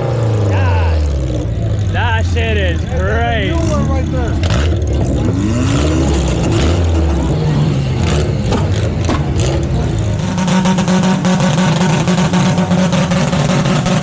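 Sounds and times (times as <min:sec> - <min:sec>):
car engine running loudly: 0:00.0 - 0:14.0.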